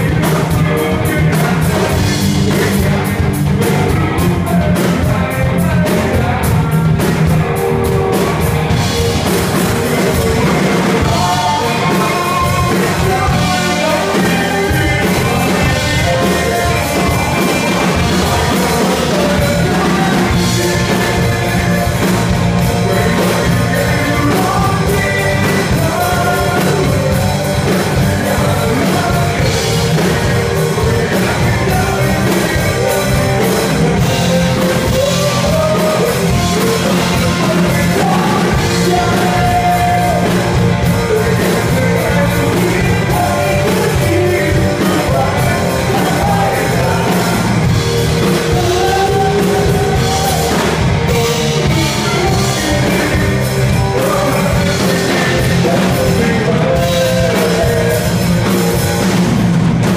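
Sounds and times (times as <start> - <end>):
bass: 0.0 - 59.9
drum kit: 0.0 - 59.9
electric guitars: 0.0 - 59.9
lead singer singing: 0.0 - 59.9.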